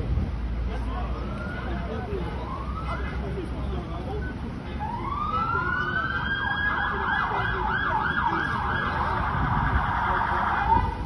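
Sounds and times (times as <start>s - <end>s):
emergency vehicle siren: 0.8s - 11.0s.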